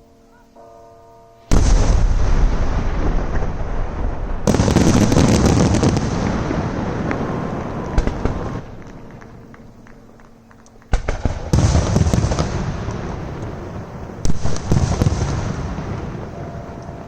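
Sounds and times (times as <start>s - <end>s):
fireworks bursting with rumbling echo: 1.5s - 17.0s.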